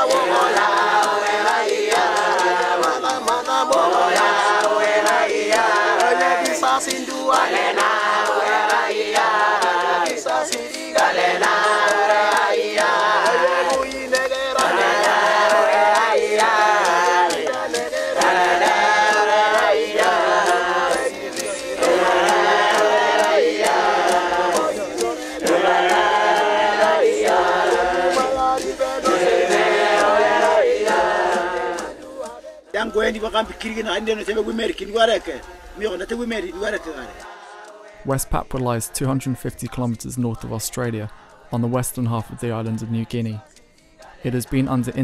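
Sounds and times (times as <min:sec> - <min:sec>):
crowd of men chanting: 0:00.0 - 0:39.6, 0:40.4 - 0:45.0.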